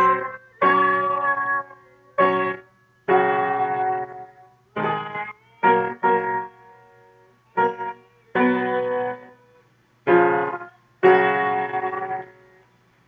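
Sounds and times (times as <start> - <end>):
piano notes and chords: 0.0 - 9.4, 10.1 - 12.6.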